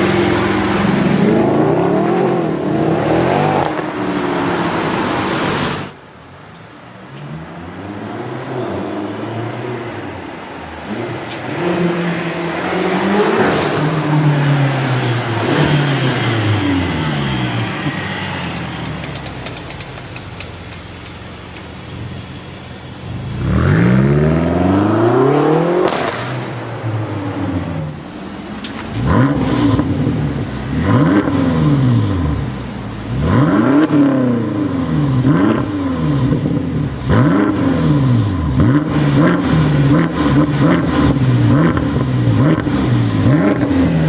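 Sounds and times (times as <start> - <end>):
car engine accelerating and revving: 0.0 - 6.0, 7.2 - 18.9, 22.6 - 44.0.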